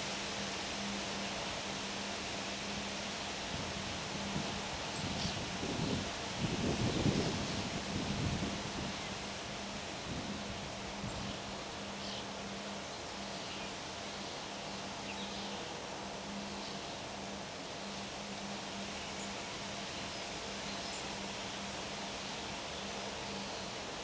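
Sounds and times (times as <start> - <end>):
wind hiss: 0.0 - 24.0.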